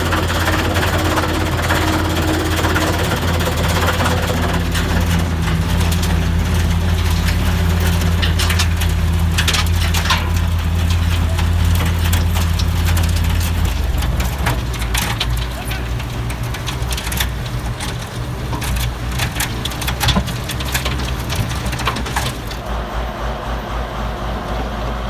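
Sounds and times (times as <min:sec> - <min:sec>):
heavy engine droning: 0:00.0 - 0:25.0.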